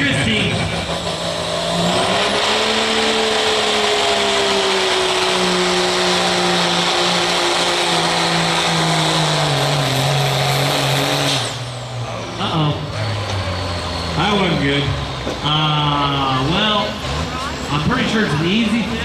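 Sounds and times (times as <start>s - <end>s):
diesel engine at full throttle: 0.0s - 19.0s.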